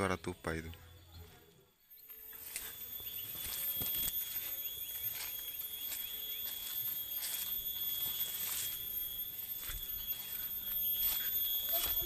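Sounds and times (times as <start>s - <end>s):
steady high-pitched whine: 0.0s - 12.0s
footsteps through undergrowth: 2.0s - 12.0s.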